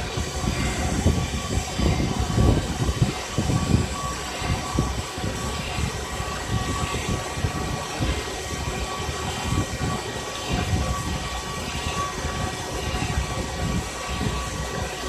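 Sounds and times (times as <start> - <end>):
milling spindle whine: 0.0 - 15.0
rumbling cutting noise: 0.0 - 15.0.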